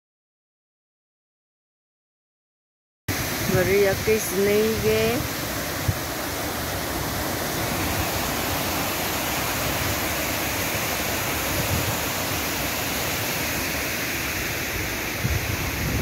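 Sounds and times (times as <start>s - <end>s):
water rushing over a weir: 3.1s - 16.0s.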